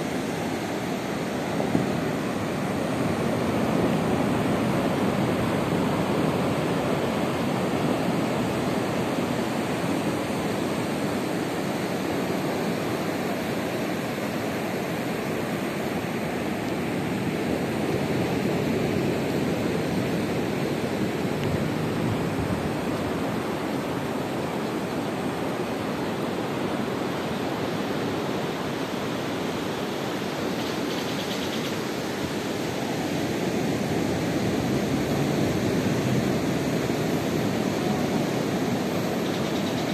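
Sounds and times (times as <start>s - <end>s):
ocean waves breaking on beach: 0.0s - 31.0s, 31.7s - 39.9s.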